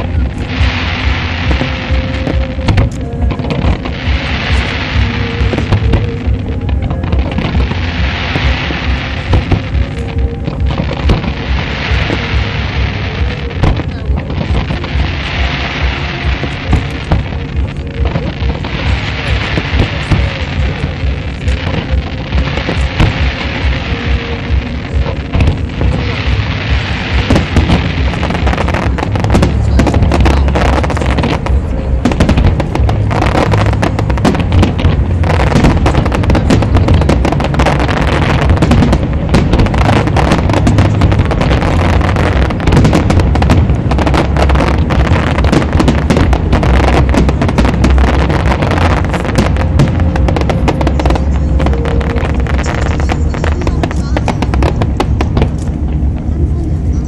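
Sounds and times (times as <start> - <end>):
fireworks bursting: 0.0 - 57.0
low rumble: 0.0 - 57.0.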